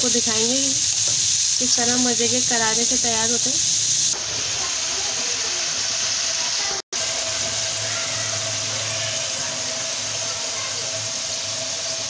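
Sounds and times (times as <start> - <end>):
fries sizzling in oil: 0.0 - 12.0.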